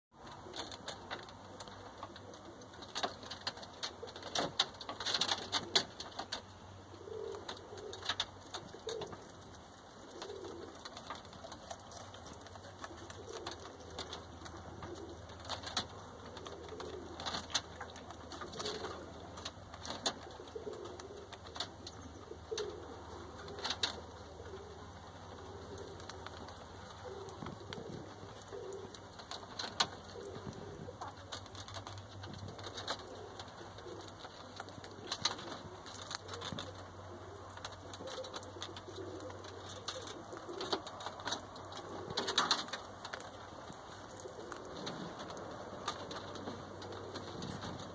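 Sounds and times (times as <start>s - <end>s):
rabbits eating with crunches: 0.1s - 47.9s
pigeons cooing softly: 0.2s - 47.9s.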